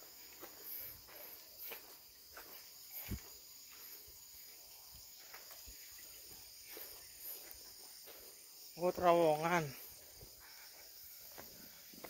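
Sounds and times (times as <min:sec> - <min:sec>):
footsteps on stone path: 0:00.0 - 0:08.8, 0:09.6 - 0:12.0
high-pitched insect chorus: 0:00.0 - 0:12.0.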